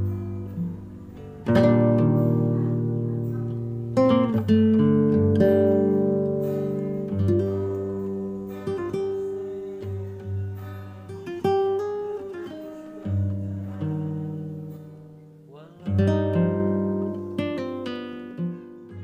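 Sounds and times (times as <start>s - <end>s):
acoustic guitar plucked: 0.0s - 19.0s.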